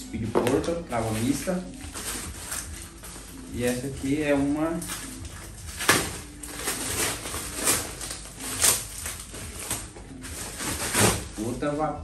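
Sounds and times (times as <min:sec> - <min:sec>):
plastic bag crinkling and rustling: 0:00.2 - 0:11.8.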